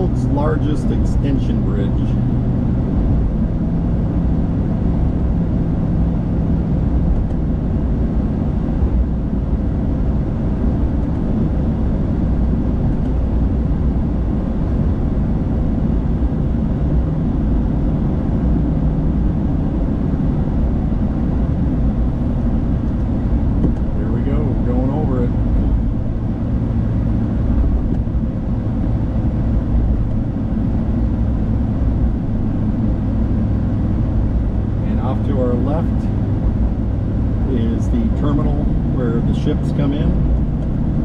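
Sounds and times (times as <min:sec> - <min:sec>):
low hum: 0:00.0 - 0:41.0
road and engine rumble in car: 0:00.0 - 0:41.0.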